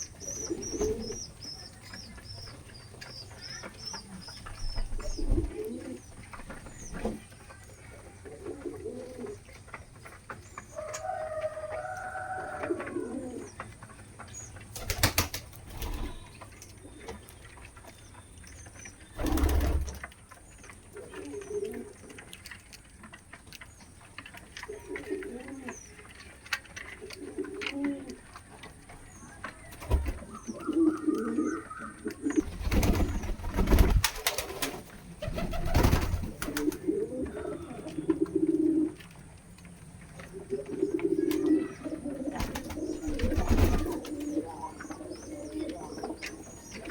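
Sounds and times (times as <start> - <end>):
pigeons cooing: 0.0 - 17.7, 18.5 - 23.2, 24.0 - 46.9.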